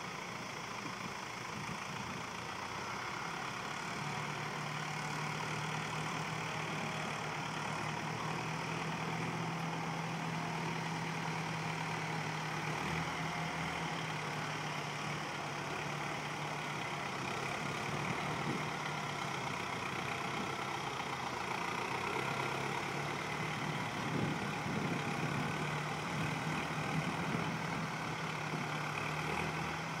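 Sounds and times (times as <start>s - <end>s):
harvester mechanical running noise: 0.0s - 30.0s
tractor engine drone: 0.0s - 30.0s.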